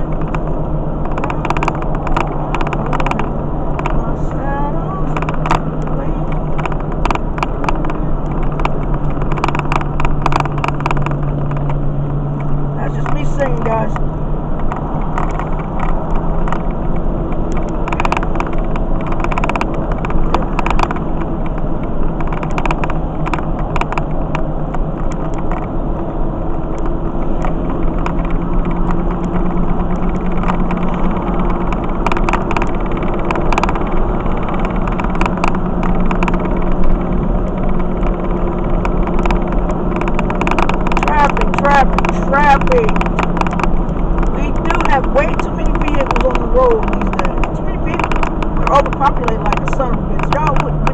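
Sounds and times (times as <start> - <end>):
light clicks and knocks: 0.0 - 4.0, 5.1 - 50.9
car engine hum: 0.0 - 50.9
road noise: 0.0 - 50.9.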